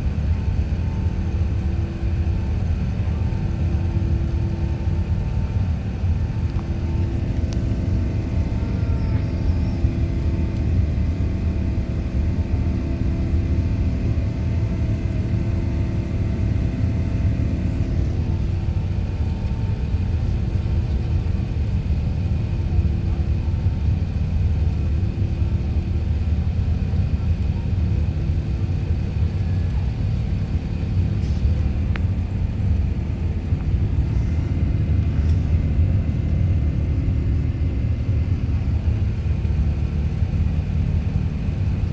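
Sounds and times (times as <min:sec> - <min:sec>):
jet engines roaring at takeoff: 0:00.0 - 0:41.9.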